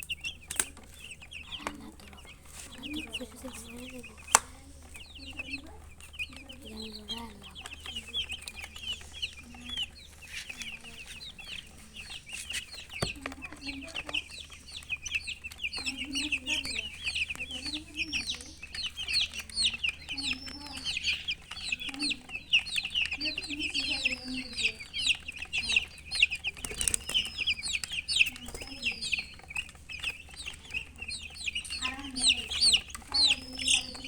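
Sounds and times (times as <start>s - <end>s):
chicks peeping: 0.0s - 34.0s
hen clucking: 0.0s - 34.0s.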